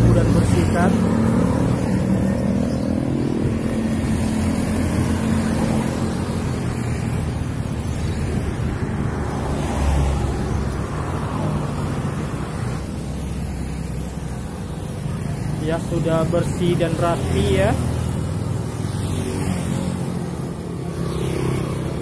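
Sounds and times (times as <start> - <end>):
road traffic rushing: 0.0 - 22.0.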